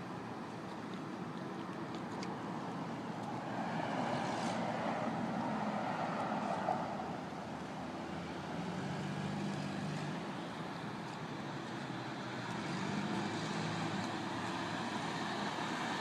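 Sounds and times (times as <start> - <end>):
road and engine noise: 0.0 - 16.0.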